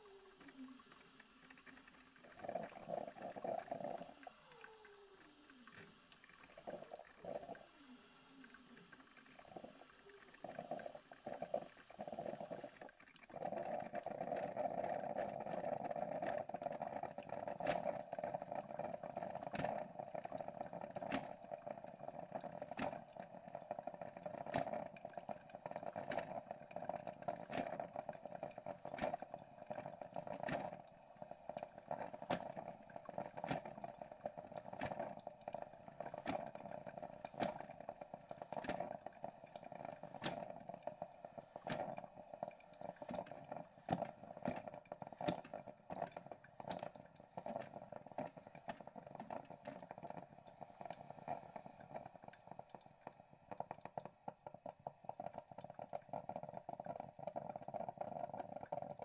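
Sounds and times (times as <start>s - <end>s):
coffee maker water spurting: 0.0s - 59.0s.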